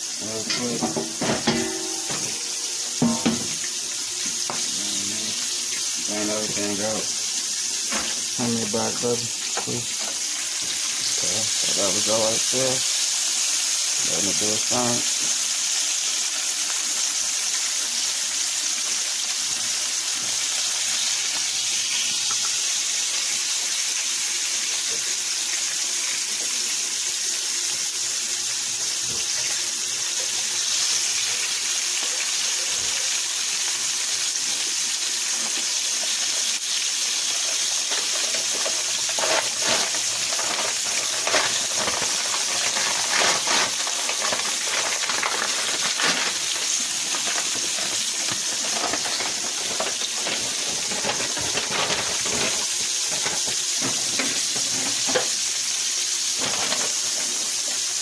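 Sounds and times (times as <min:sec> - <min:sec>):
food sizzling in oil: 0:00.0 - 0:58.0
oil crackling and popping: 0:00.0 - 0:58.0.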